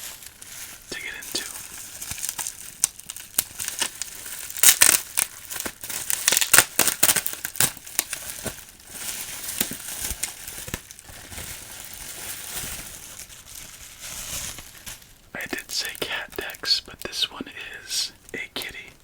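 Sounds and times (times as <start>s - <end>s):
bubble wrap crackling: 0.0s - 19.0s.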